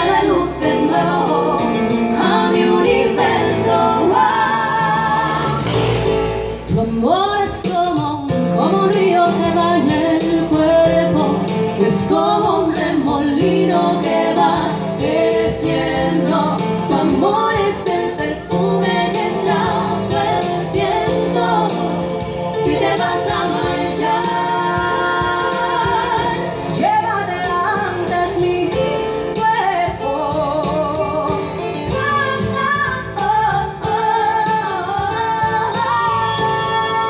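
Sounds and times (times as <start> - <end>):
keyboard accompaniment: 0.0 - 37.0
women singing with vibrato: 0.0 - 37.0.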